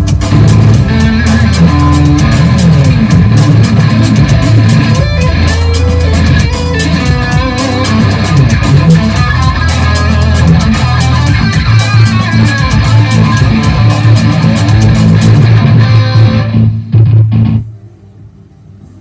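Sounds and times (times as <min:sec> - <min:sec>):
electric guitar with effects: 0:00.0 - 0:17.8.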